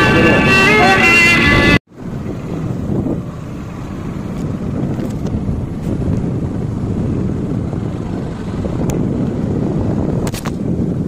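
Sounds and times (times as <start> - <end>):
wind buffeting microphone: 0.0 - 11.0
motorcycle engine and tyre rumble: 1.2 - 11.0.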